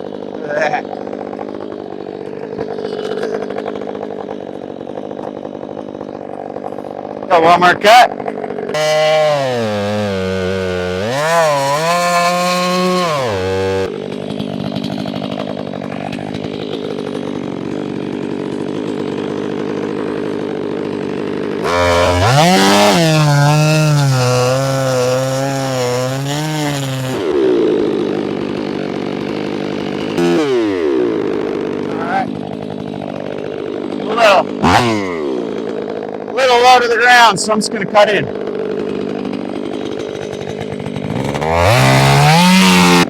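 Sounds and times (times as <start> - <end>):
chainsaw cutting log: 0.0 - 43.0.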